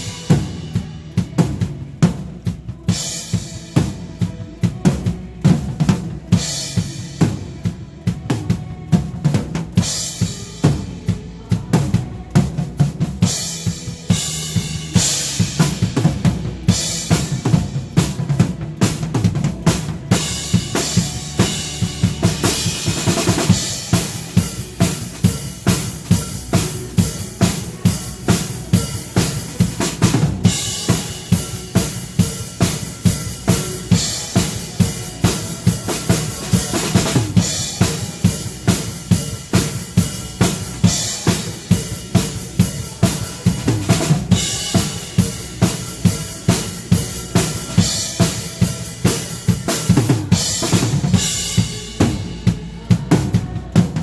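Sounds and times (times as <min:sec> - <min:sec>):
drum kit steady beat: 0:00.0 - 0:54.0.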